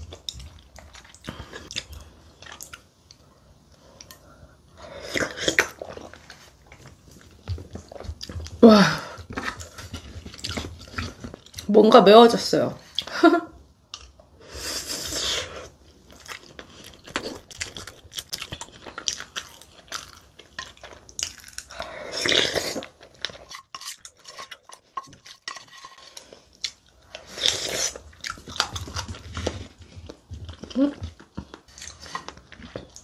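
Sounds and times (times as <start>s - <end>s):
person chewing: 0.0s - 11.7s, 13.9s - 33.0s.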